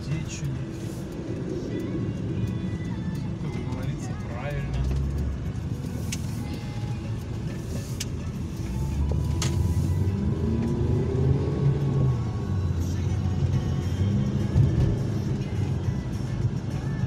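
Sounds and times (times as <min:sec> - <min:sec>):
engine and tyre rumble: 0:00.0 - 0:17.0
song playing faintly: 0:00.0 - 0:17.0.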